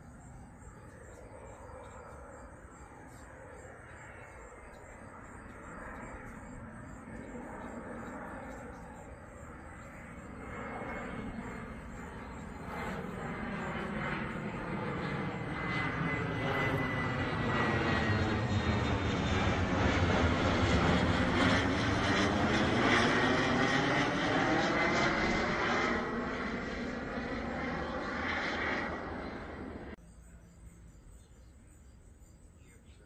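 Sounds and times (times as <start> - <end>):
jet flying overhead: 0.0 - 30.0
high turbine whine: 0.0 - 33.0.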